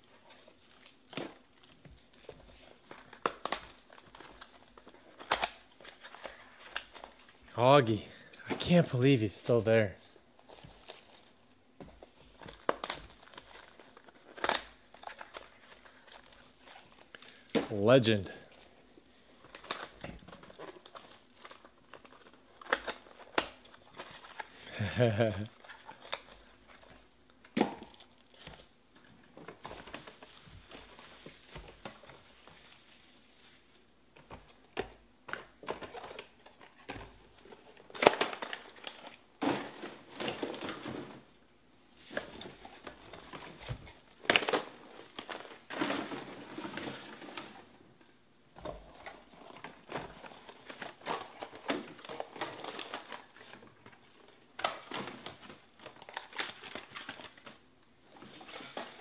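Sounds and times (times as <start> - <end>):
foil packs crinkling: 0.0 - 41.3, 41.9 - 47.8, 48.8 - 59.0.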